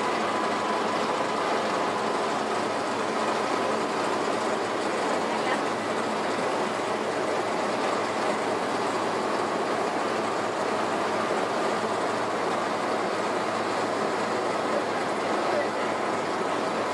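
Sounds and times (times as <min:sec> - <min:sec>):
engine drone: 0:00.0 - 0:16.9
water rushing along hull: 0:00.0 - 0:16.9.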